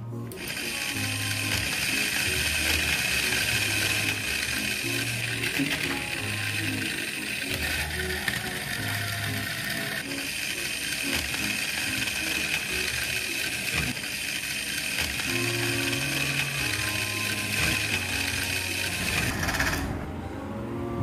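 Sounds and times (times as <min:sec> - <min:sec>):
toy mixer motor whining: 0:00.3 - 0:20.0.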